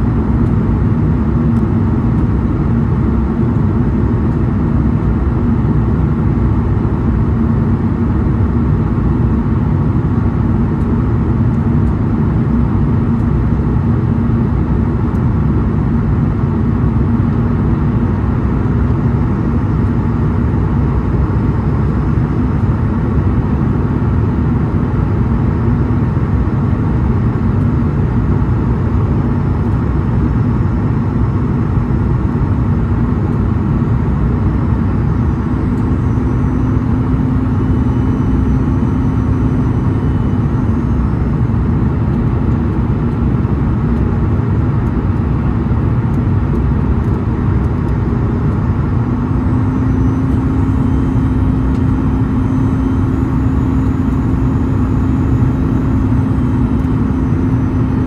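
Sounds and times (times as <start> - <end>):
jet engines droning: 0.0 - 58.0
low steady hum: 0.0 - 58.0.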